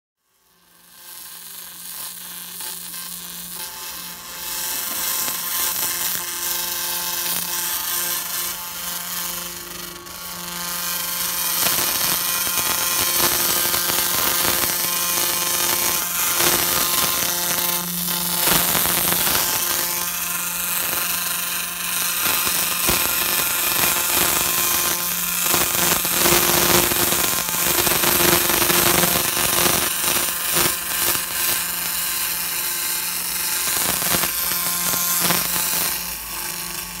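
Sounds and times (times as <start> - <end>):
laser pulses crackling on stone: 0.7 - 37.0.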